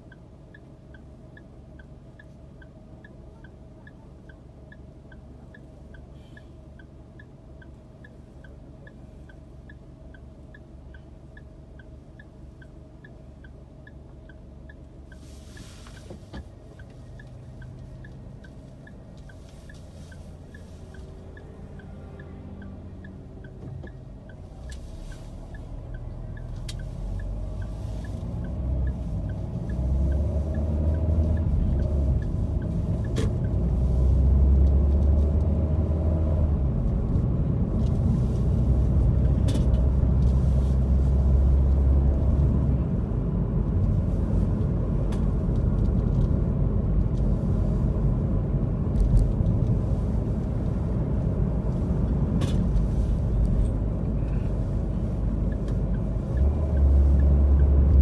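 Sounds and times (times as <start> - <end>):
car engine and road noise: 0.0 - 58.0
faint regular ticks: 0.0 - 58.0.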